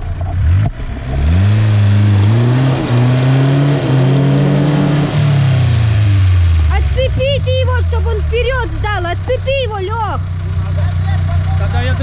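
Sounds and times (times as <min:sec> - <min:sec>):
engine revving hard: 0:00.0 - 0:10.0.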